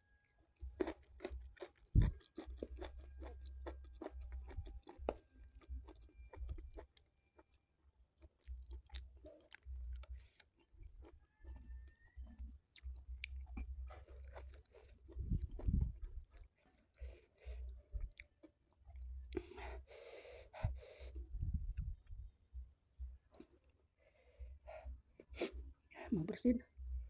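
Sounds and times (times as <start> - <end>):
close chewing and mouth sounds: 0.0 - 26.0.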